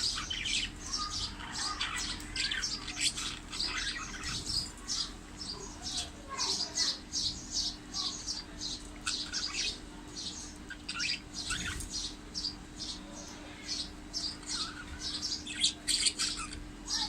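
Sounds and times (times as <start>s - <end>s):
budgies chirping: 0.0s - 17.0s
faint low hum: 0.0s - 17.0s.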